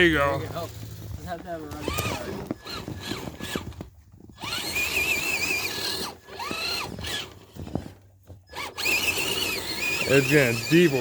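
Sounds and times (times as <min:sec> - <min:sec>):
toy truck electric motor whining: 0:01.6 - 0:11.0.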